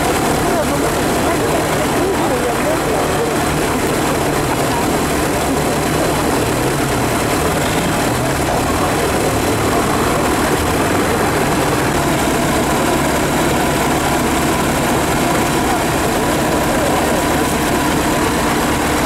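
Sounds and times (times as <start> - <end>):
off-road engines droning: 0.0 - 19.0.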